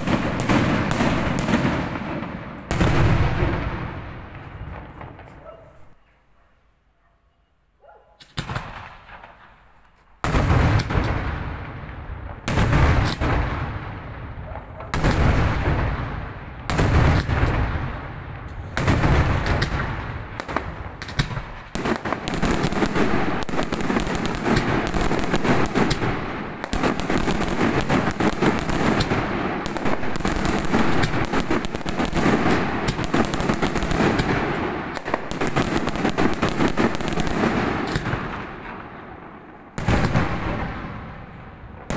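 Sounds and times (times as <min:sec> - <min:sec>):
rapid firecracker explosions: 0:00.0 - 0:05.9, 0:08.2 - 0:41.9
fireworks bangs: 0:00.0 - 0:06.2, 0:08.2 - 0:41.9.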